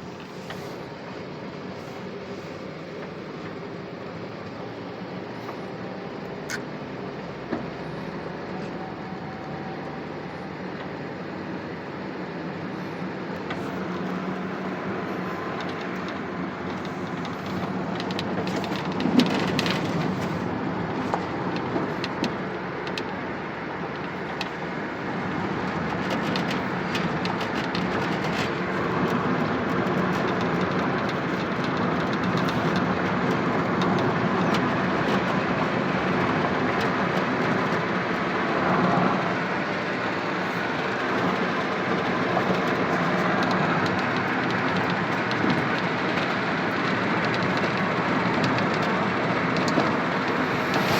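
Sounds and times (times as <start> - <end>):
truck engine and road noise: 0.0 - 50.9.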